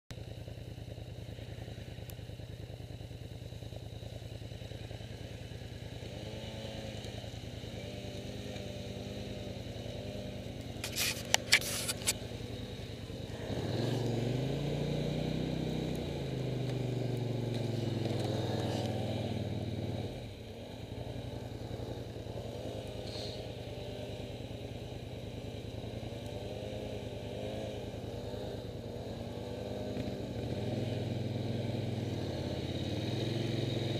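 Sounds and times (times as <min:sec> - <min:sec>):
atv engine running: 0:00.1 - 0:33.9.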